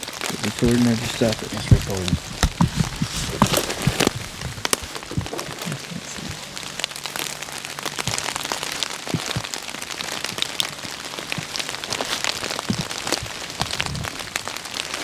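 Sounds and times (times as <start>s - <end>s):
rain falling: 0.0s - 15.0s
raindrops ticking close: 0.0s - 15.0s.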